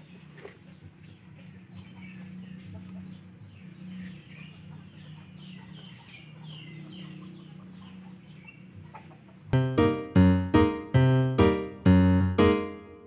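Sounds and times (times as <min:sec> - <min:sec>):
chickens calling: 0:00.0 - 0:10.5.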